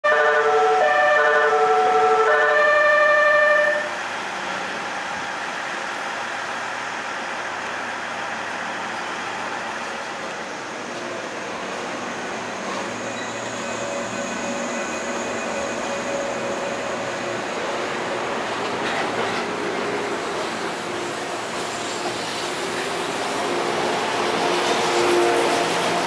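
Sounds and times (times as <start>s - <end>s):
electric train humming: 0.1s - 26.0s.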